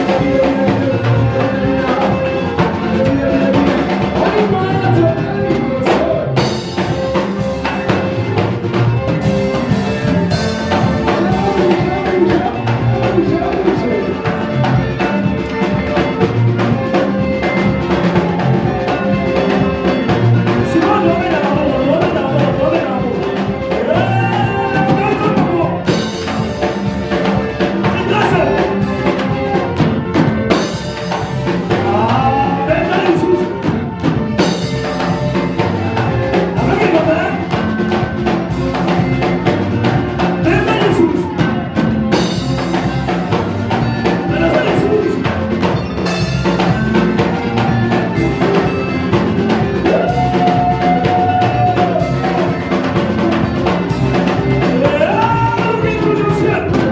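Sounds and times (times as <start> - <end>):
drum kit beat: 0.0 - 56.9
voices singing: 0.0 - 56.9
worship band music: 0.0 - 56.9.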